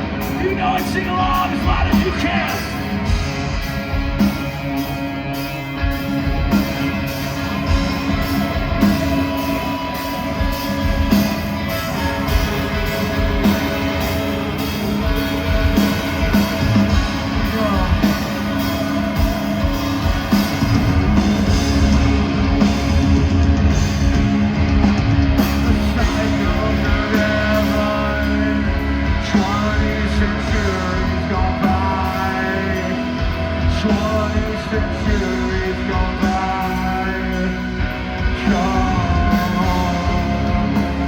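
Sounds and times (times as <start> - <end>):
bass guitar: 0.0 - 41.0
distorted electric guitars: 0.0 - 41.0
drums: 0.0 - 41.0
vocals: 0.0 - 41.0.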